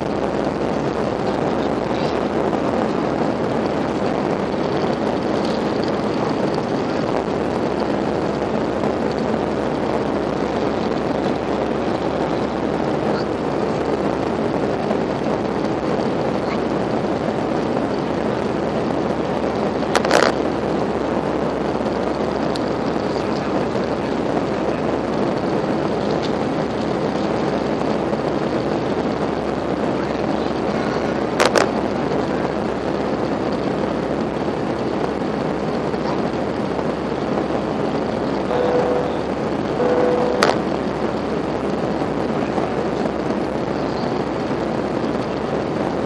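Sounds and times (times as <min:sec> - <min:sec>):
airplane cabin engine noise: 0:00.0 - 0:46.0.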